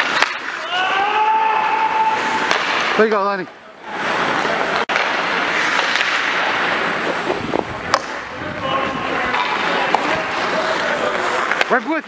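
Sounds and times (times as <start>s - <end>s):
skate blades scraping ice: 0.0s - 12.0s.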